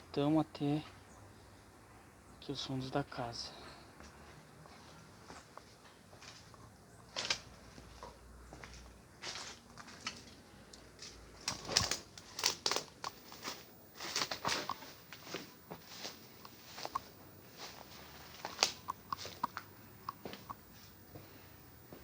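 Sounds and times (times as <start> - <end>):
footsteps crunching through dry brush: 4.0 - 22.0.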